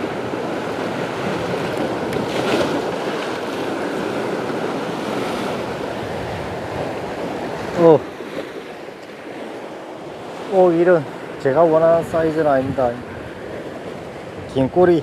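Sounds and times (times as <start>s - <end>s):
wind buffeting microphone: 0.0s - 10.4s, 11.0s - 15.0s
waves washing against rocks: 0.0s - 14.4s.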